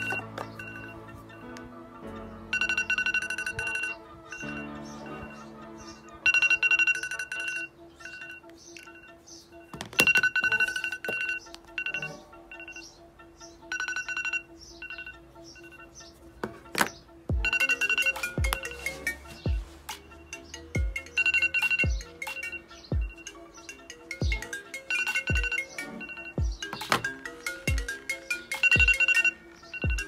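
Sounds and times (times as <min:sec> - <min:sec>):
rapid two-pitch ringtone trill: 0:00.0 - 0:01.5, 0:02.5 - 0:05.4, 0:06.0 - 0:13.0, 0:13.6 - 0:16.0, 0:17.3 - 0:30.0.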